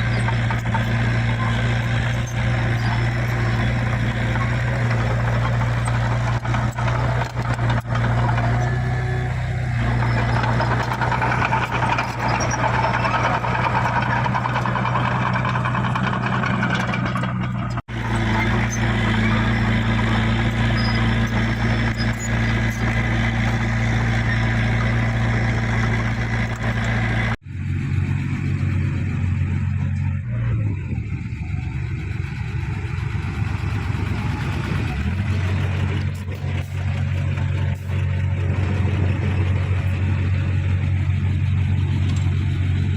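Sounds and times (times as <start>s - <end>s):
heavy diesel machinery engine: 0.0s - 42.9s.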